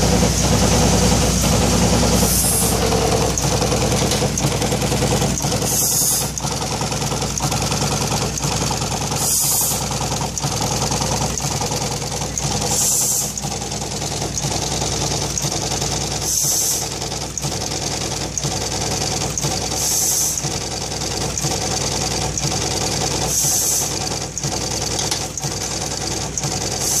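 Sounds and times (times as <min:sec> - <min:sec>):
pin stitcher machine clatter: 0:00.0 - 0:27.0.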